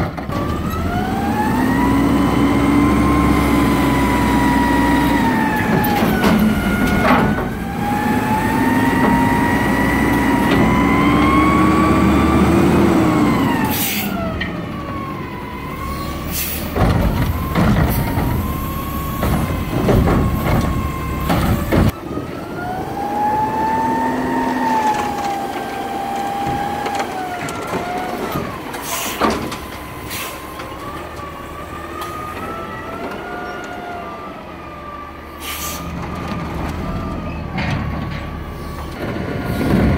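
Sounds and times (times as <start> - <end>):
hydraulics whining: 0.0 - 39.9
truck engine rumble: 0.0 - 39.9.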